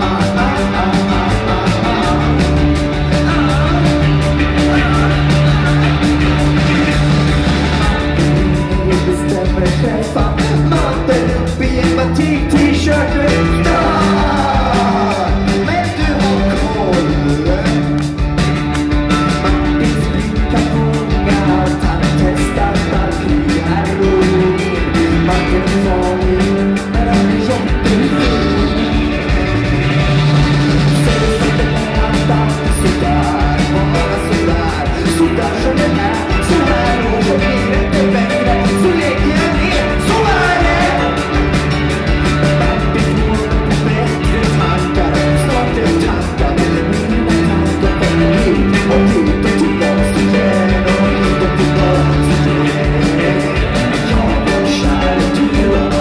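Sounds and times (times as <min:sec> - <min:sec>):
man singing: 0:00.0 - 0:18.3, 0:19.1 - 0:56.0
drums: 0:00.0 - 0:56.0
electric guitar: 0:00.0 - 0:56.0.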